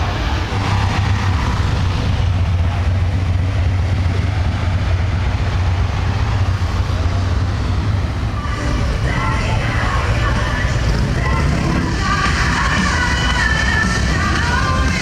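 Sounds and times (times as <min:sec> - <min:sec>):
motorcycle engines rumbling: 0:00.0 - 0:15.0
street noise: 0:00.0 - 0:15.0.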